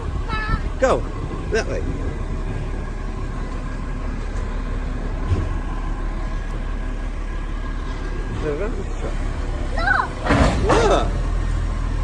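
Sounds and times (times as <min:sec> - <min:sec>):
garbage truck engine rumble: 0:00.0 - 0:12.0.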